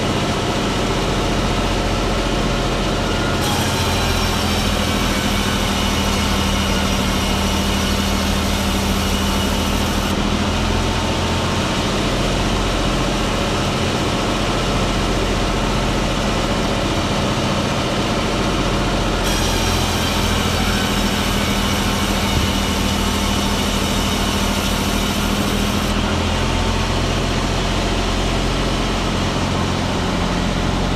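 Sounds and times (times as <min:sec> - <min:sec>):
heavy machine engine humming: 0:00.0 - 0:30.9.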